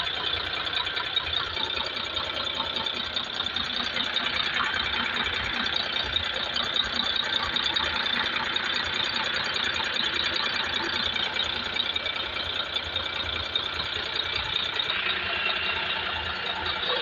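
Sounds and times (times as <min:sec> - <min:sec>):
diesel engine clattering: 0:00.0 - 0:17.0.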